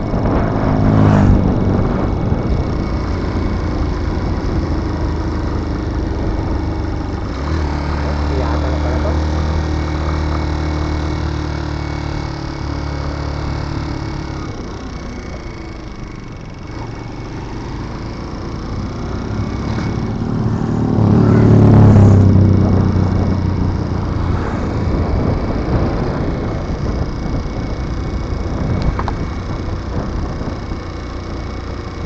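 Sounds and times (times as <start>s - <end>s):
vehicle engine passing: 0.0s - 30.6s
road and traffic noise: 0.0s - 32.0s.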